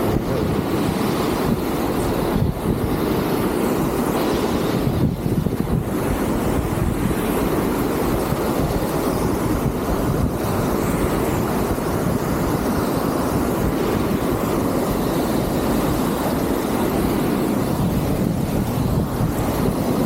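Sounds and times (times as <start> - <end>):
gale wind buffeting microphone: 0.0 - 20.0.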